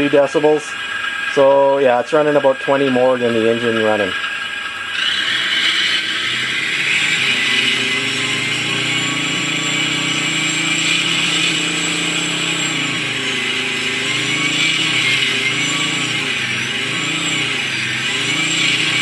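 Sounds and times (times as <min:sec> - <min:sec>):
synthesised tank engine sound: 0:00.0 - 0:19.0.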